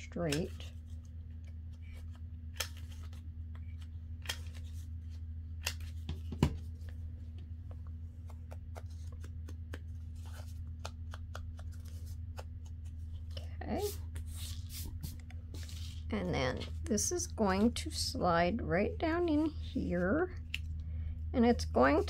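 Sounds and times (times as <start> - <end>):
steady low hum: 0.0 - 22.0
paper handling: 0.2 - 18.0.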